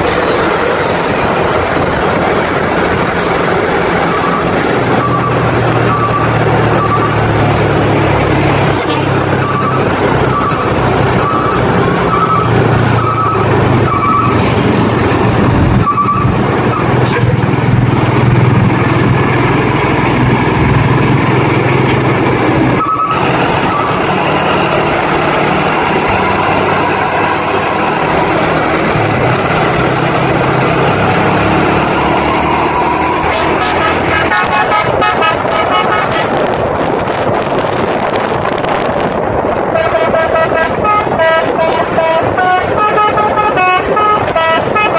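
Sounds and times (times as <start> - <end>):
diesel engine rumble: 0.0 - 44.9
road noise: 0.0 - 44.9.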